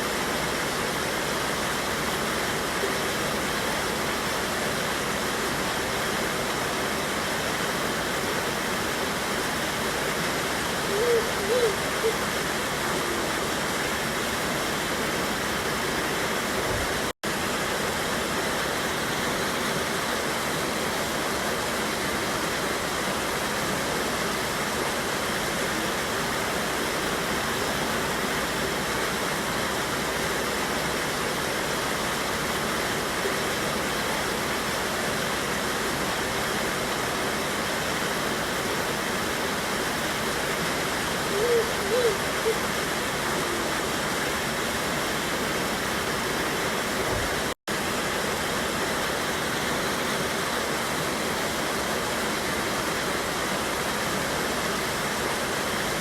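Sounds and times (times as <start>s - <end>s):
waterfall rushing over rocks: 0.0s - 56.0s.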